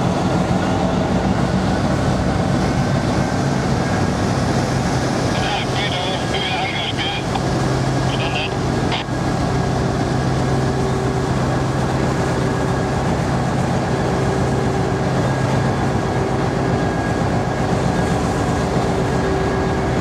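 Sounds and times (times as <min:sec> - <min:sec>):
tug diesel engines droning: 0:00.0 - 0:20.0.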